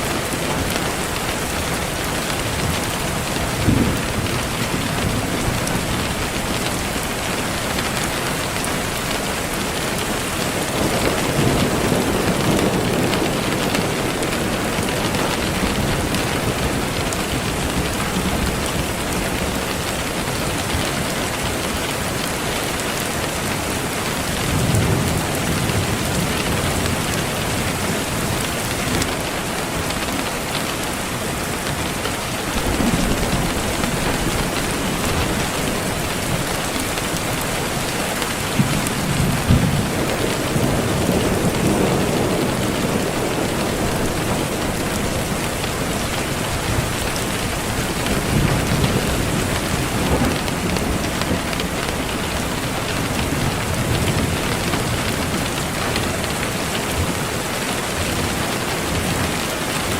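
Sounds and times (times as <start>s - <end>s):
steady rain hiss: 0.0s - 59.9s
low thunder rumbles: 0.1s - 7.8s, 9.6s - 23.1s, 23.8s - 30.0s, 32.4s - 57.5s.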